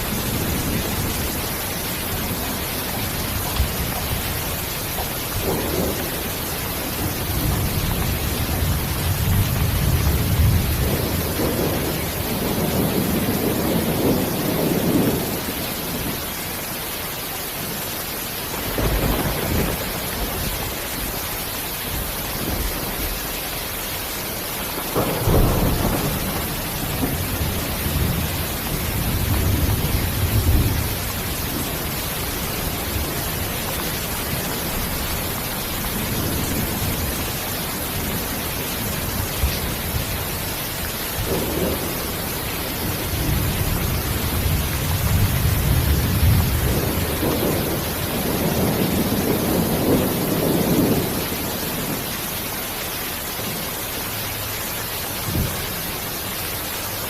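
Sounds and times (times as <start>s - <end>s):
thunder rolling: 0.0s - 16.2s, 18.5s - 21.2s, 24.6s - 52.0s
heavy rain hiss: 0.0s - 57.0s.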